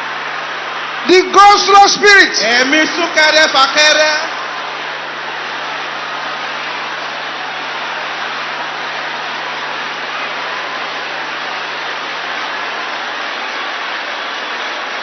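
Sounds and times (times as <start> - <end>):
crowd praying aloud: 0.0 - 15.0.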